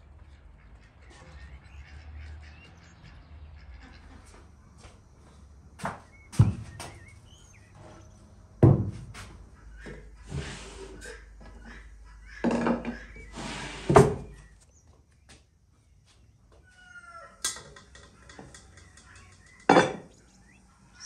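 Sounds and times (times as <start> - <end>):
chickens clucking: 0.2 - 14.6, 16.7 - 21.0.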